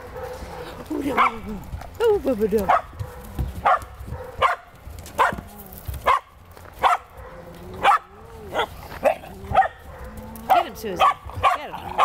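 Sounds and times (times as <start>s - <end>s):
dog barking: 0.0s - 1.4s, 2.7s - 12.0s.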